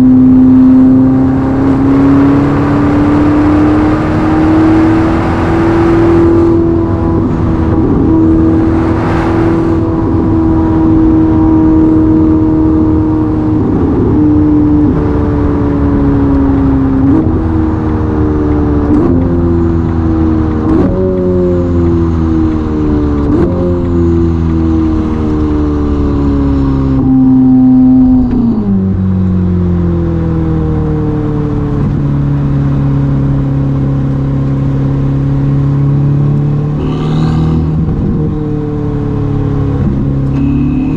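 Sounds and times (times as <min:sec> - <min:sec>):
car engine slowing with downshifts: 0:00.0 - 0:40.9.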